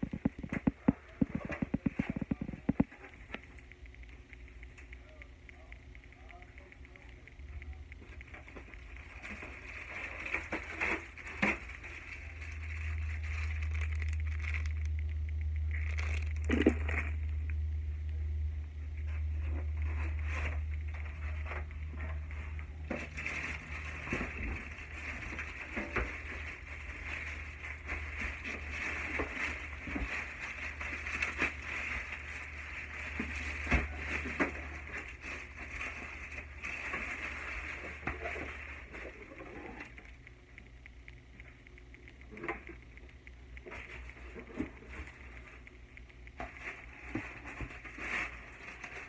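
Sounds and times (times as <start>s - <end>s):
plastic and foam rustling: 0.0s - 4.0s, 8.0s - 17.5s, 19.0s - 40.4s, 43.6s - 49.0s
low hum and hiss: 0.0s - 49.0s.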